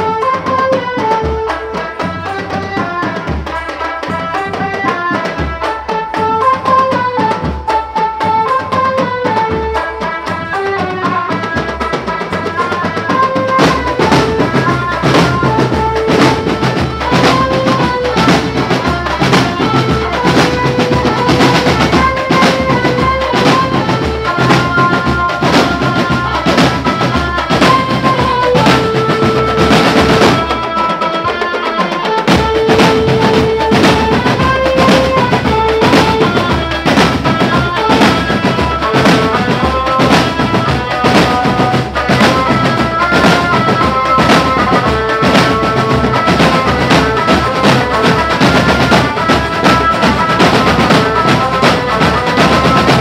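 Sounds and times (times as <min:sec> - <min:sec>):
marching band melody: 0:00.0 - 0:53.0
snare and bass drums: 0:00.0 - 0:53.0.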